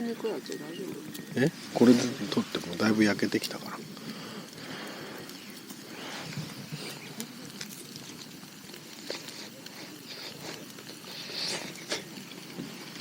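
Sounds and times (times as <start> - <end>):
meat sizzling on a grill: 0.0 - 13.0
pops and crackles: 0.0 - 13.0.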